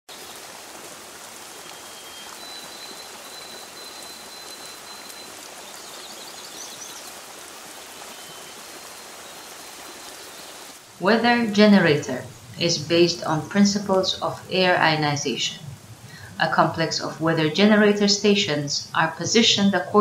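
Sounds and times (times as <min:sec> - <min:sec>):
steady rain falling: 0:00.1 - 0:20.0.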